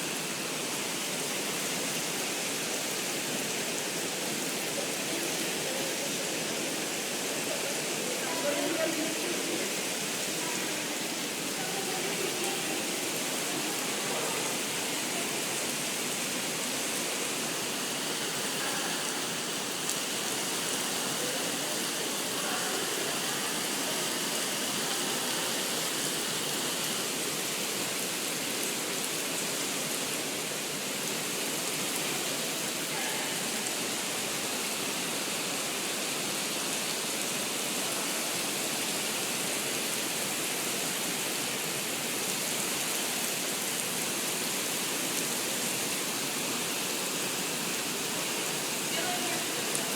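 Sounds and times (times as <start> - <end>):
indoor rain falling on floor: 0.0 - 49.9.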